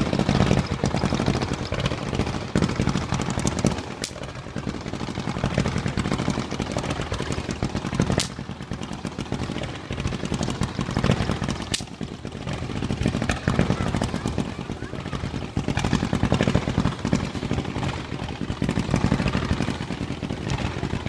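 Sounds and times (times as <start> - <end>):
fireworks bangs: 0.0 - 21.0
fireworks crackling and popping: 0.0 - 21.0.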